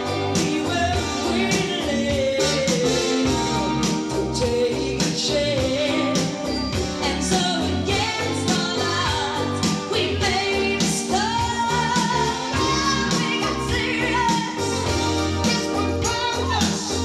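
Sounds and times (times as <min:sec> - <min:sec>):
woman singing lead: 0:00.0 - 0:03.5, 0:04.2 - 0:17.0
drums: 0:00.0 - 0:17.0.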